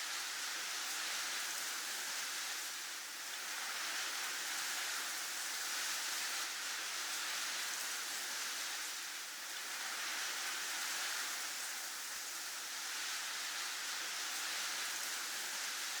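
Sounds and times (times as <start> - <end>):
high hiss of wind: 0.0 - 16.0.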